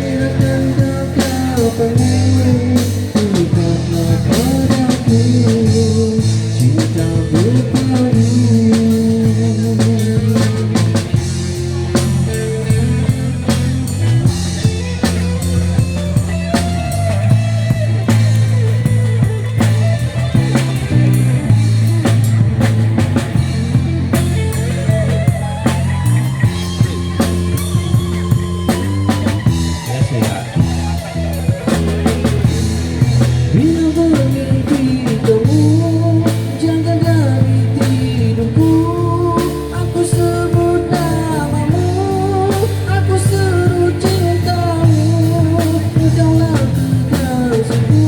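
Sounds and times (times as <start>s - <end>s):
drum kit beat: 0.0s - 48.0s
rock band playing: 0.0s - 48.0s.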